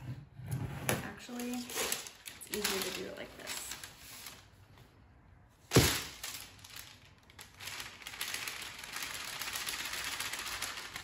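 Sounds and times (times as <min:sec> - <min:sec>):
parchment paper rustling: 0:01.1 - 0:05.0, 0:05.7 - 0:11.0.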